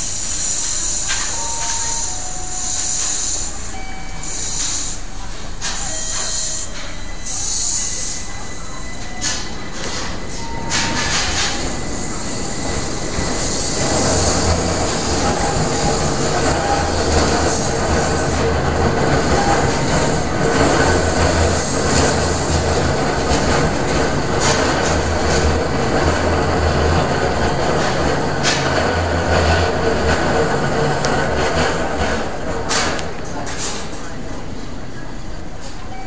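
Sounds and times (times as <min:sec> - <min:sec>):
train wheels squealing: 0:00.0 - 0:31.8
train rumbling: 0:00.0 - 0:36.0.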